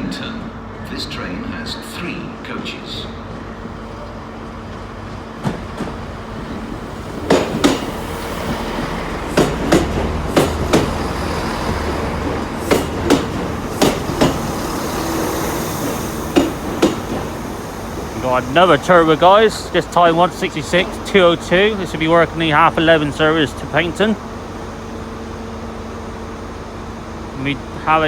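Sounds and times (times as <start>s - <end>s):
low engine rumble: 0.0s - 28.0s
train wheels clicking on rail joints: 3.3s - 27.3s.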